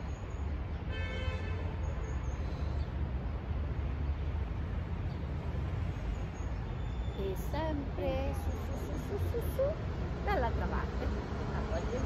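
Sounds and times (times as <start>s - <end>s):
distant city traffic rumble: 0.0s - 12.0s.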